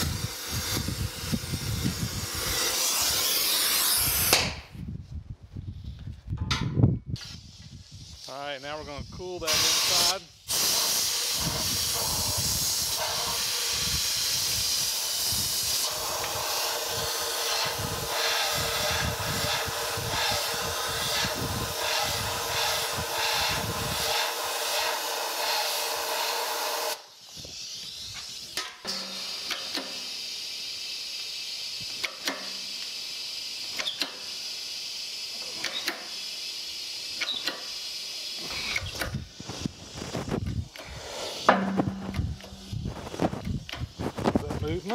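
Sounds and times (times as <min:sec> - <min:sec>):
compressed air blasting: 0:00.0 - 0:04.8, 0:06.5 - 0:44.9.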